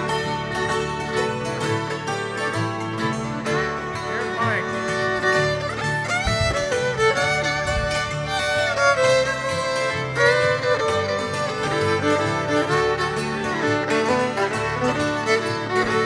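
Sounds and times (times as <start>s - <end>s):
hammered dulcimers: 0.0s - 6.2s, 6.8s - 16.0s
fiddle with sliding notes: 0.0s - 16.0s
upright bass walking line: 0.0s - 16.0s.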